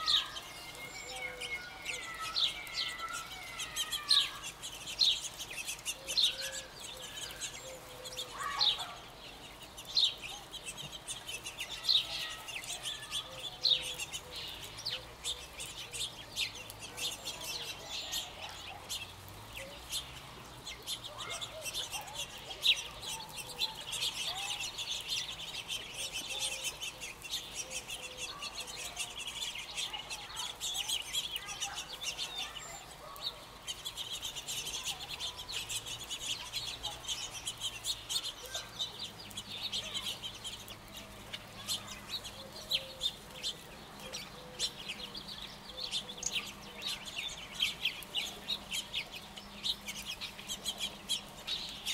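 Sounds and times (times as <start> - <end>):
quail chirping and clucking: 0.0 - 51.9.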